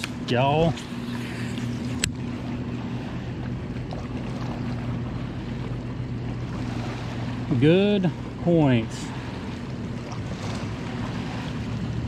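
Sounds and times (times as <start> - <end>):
steady low hum: 0.0 - 12.0
water lapping around kayak: 0.0 - 12.0
wind: 0.0 - 12.0.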